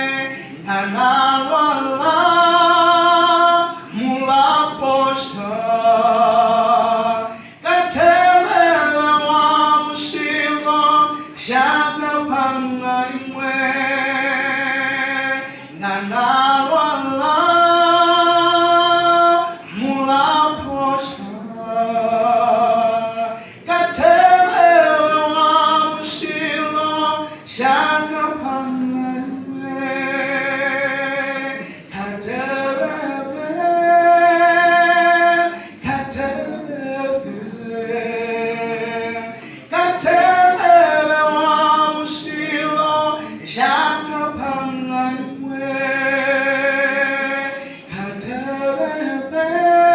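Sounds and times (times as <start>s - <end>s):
voices singing a gospel song: 0.0s - 49.9s.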